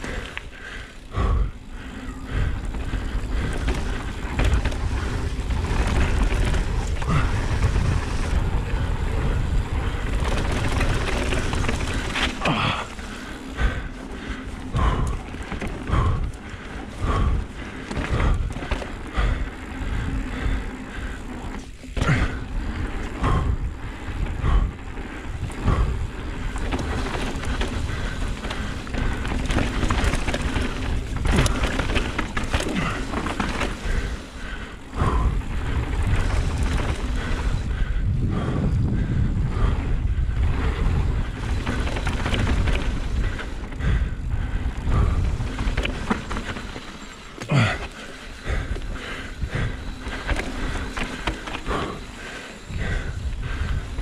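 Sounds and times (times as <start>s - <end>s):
bike rattling over bumps: 0.0s - 54.0s
bike tyres rolling over dirt: 0.0s - 54.0s.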